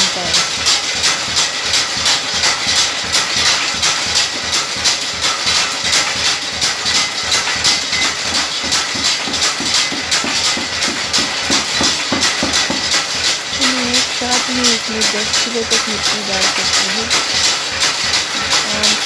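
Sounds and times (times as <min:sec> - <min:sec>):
grinding mill running: 0:00.0 - 0:19.0.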